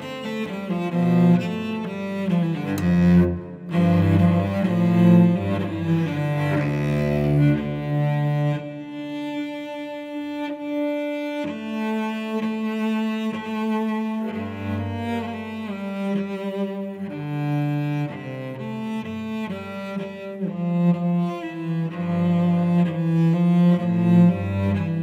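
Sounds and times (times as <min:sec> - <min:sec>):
bowed cello: 0:00.0 - 0:25.0.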